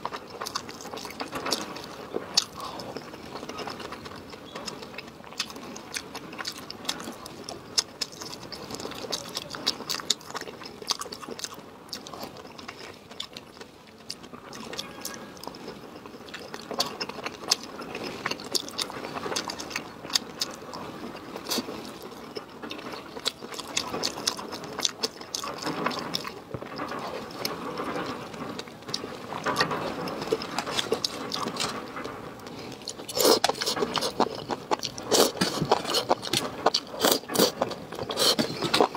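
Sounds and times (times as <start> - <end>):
wet chewing and slurping: 0.0 - 38.9.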